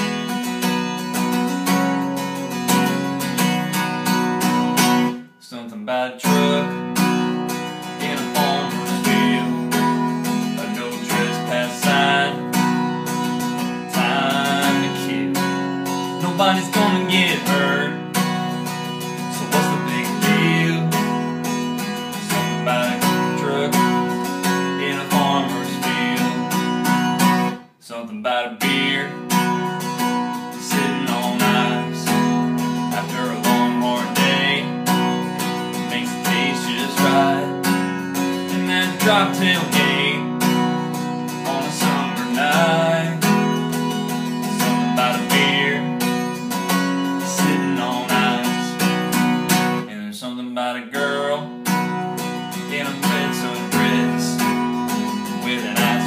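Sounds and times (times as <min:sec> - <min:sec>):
man singing: 0:00.0 - 0:04.1, 0:04.7 - 0:56.0
strummed acoustic guitar: 0:00.0 - 0:56.0.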